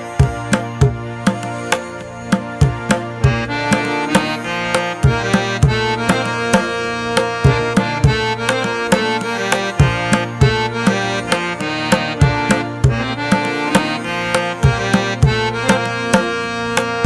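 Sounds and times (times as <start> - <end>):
held chords: 0.0 - 17.0
drum beat: 0.2 - 16.3.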